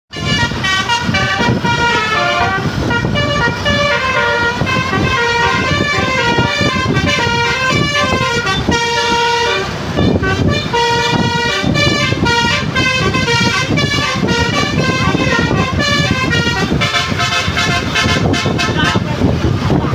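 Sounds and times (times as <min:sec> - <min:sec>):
multi-tone air horn tune: 0:00.1 - 0:19.4
low rumble: 0:00.1 - 0:19.9.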